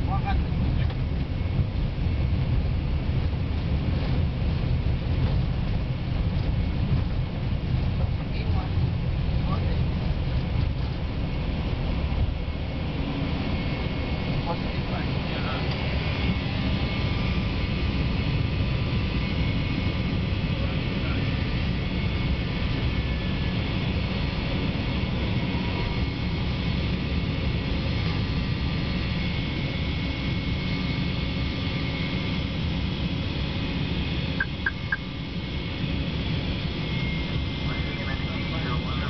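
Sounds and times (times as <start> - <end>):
jet engines in cabin: 0.0 - 39.0.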